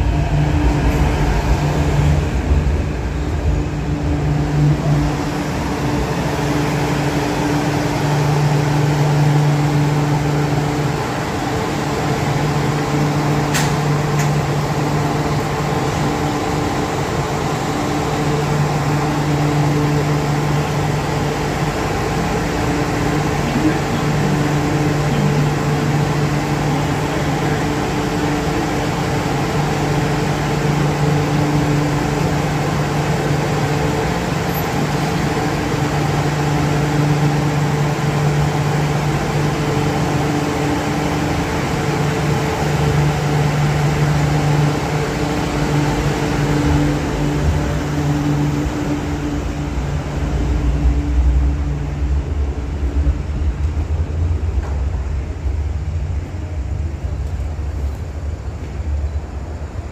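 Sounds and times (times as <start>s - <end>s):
electric train humming: 0.0s - 59.9s
train doors closing: 0.0s - 59.9s
train rumbling away: 0.0s - 59.9s.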